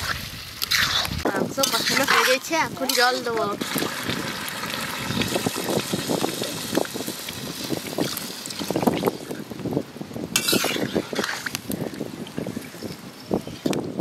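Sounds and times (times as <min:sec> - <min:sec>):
water sloshing in a pan: 0:00.6 - 0:09.6, 0:10.4 - 0:12.8.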